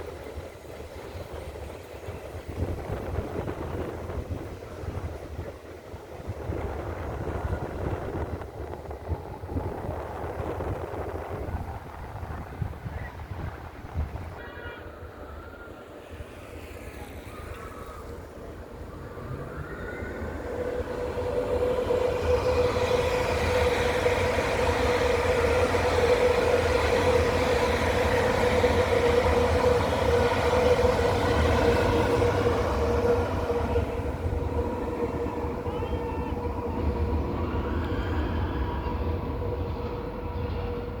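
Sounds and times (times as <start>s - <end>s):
electric train whine: 0.0s - 41.0s
wheels rumbling on rail: 0.0s - 41.0s.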